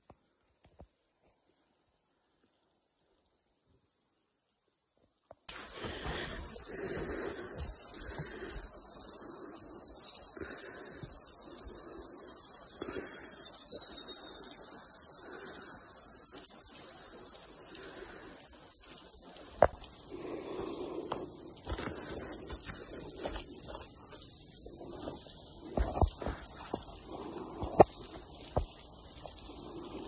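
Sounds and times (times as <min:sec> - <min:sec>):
insect chorus: 0:00.0 - 0:30.0.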